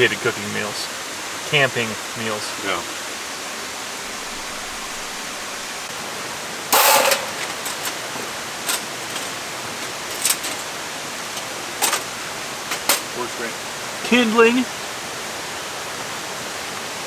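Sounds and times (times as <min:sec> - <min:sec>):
waterfall and creek rushing: 0:00.0 - 0:17.0.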